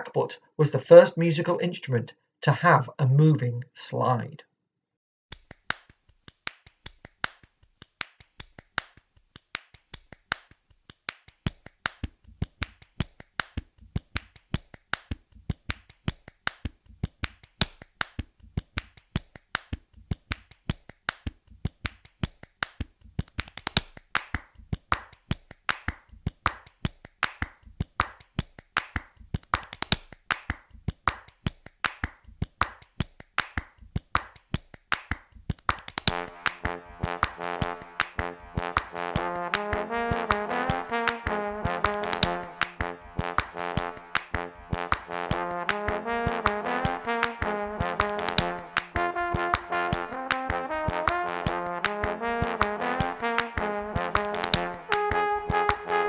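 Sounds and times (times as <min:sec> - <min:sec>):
hand clapping: 0:05.3 - 0:56.0.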